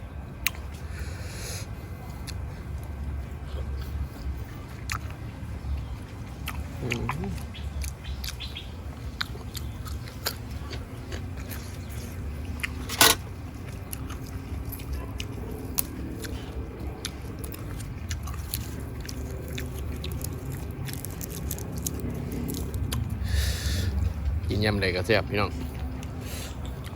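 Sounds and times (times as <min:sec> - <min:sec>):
biting and chewing food: 0:02.0 - 0:24.5.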